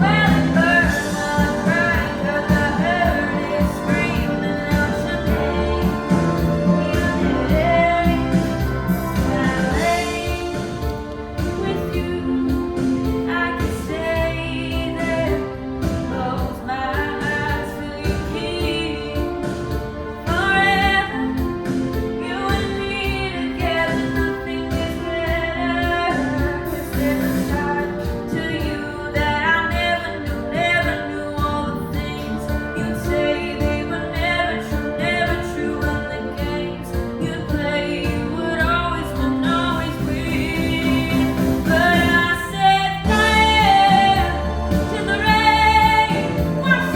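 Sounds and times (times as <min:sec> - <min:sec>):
song with singing and beat: 0:00.0 - 0:46.9.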